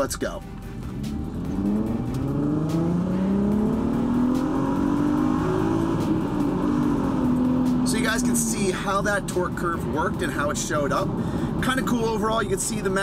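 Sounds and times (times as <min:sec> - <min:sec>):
car engine revving at full throttle: 0:00.8 - 0:13.0.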